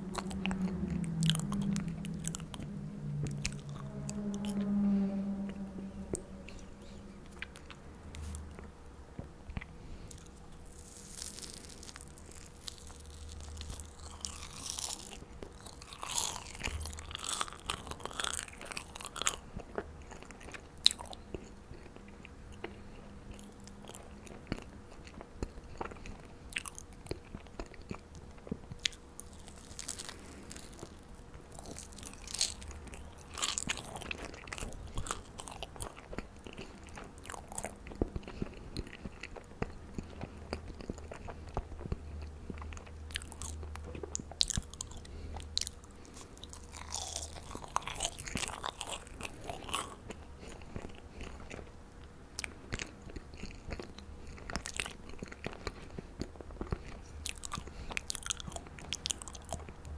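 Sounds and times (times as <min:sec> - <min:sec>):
chewing marshmallows: 0:00.0 - 0:04.6, 0:05.5 - 0:59.9.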